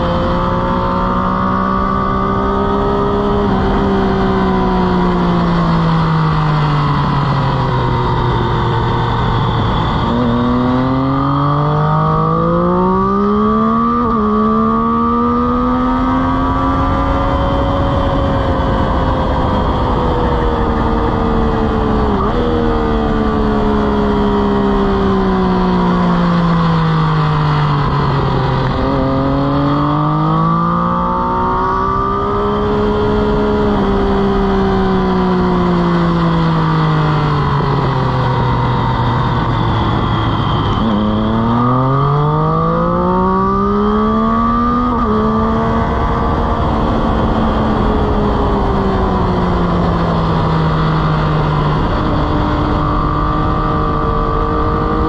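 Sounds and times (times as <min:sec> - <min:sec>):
motorcycle engine revving: 0:00.0 - 0:55.0
rush of wind: 0:00.0 - 0:55.0.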